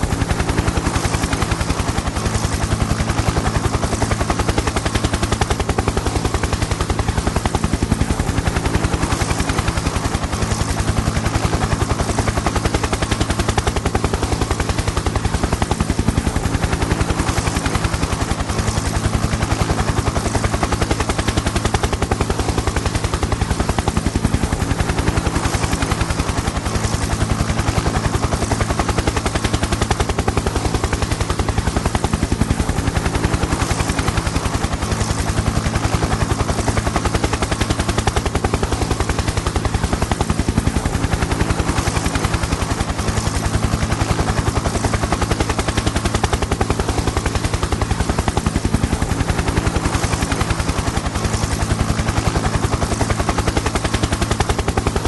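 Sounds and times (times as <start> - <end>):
helicopter engine drone: 0.0 - 55.0
helicopter rotor chop: 0.0 - 55.0.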